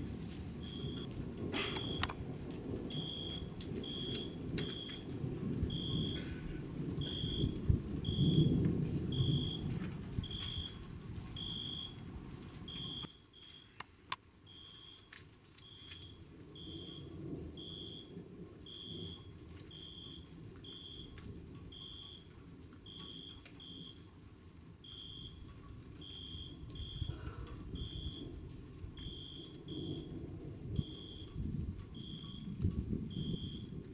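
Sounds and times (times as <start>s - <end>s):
low rumbling thunder: 0.0s - 13.0s, 16.2s - 22.1s, 25.5s - 33.9s.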